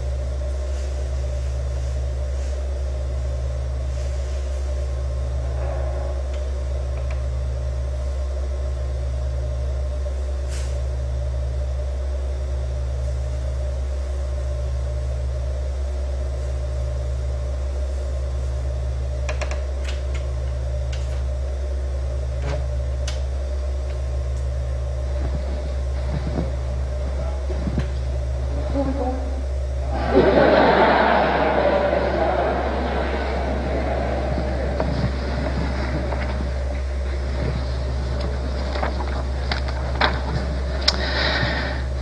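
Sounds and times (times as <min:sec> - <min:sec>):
loud low pulsing hum: 0:00.0 - 0:42.0.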